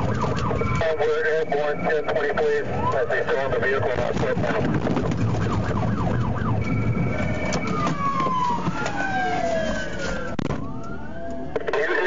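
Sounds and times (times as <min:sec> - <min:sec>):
low vehicle rumble: 0:00.0 - 0:12.0
police siren wailing: 0:00.0 - 0:12.0.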